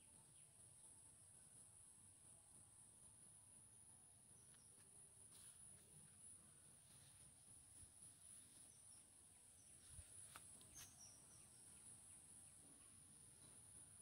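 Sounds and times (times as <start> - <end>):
faint bird chirps: 0.0 - 2.5, 3.1 - 7.2, 8.2 - 14.0
faint high-pitched hiss: 0.0 - 14.0.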